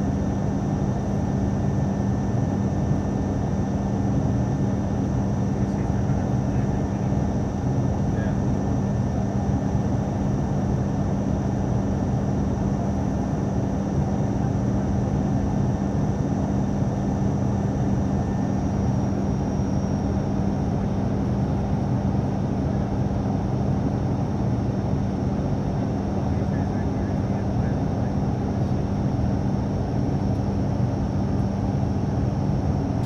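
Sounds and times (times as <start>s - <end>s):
propeller and engine drone: 0.0s - 33.0s.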